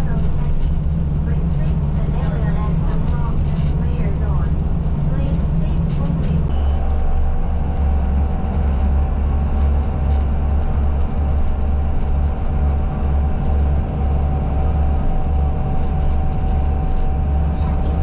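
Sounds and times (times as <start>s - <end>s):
bus engine rumble: 0.0s - 18.0s
faint constant whine: 0.0s - 18.0s.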